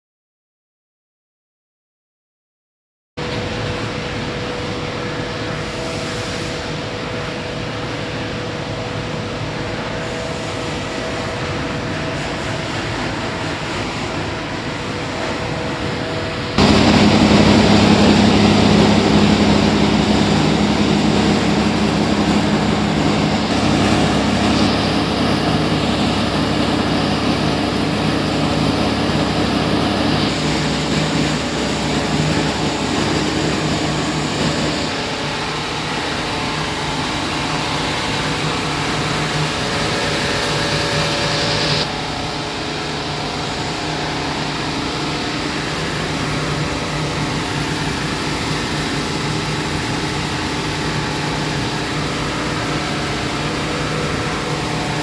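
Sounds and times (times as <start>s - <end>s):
industrial machine noise: 3.2s - 55.0s.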